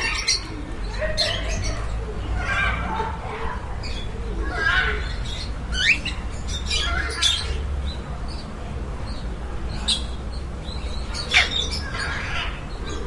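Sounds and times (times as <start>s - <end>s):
caged birds squawking: 0.0s - 13.0s.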